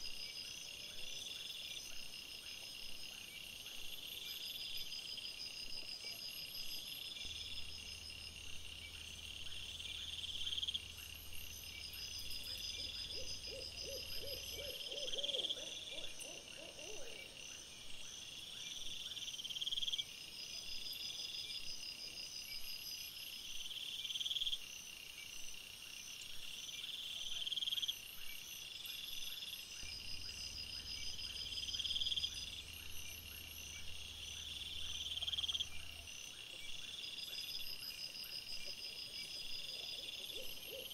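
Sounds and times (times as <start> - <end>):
night insects chirping in trills: 0.0 - 40.9
rapid pulsed insect calls: 0.0 - 40.9.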